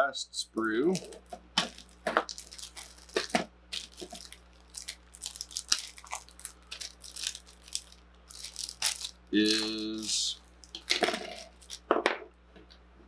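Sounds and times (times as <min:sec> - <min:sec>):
plastic bag crinkling: 0:00.6 - 0:11.9.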